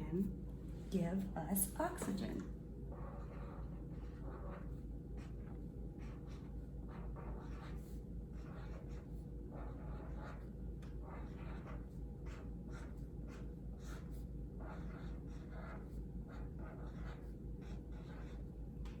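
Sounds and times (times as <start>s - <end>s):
steady low hum: 0.0s - 19.0s
pen scratching on paper: 2.8s - 19.0s.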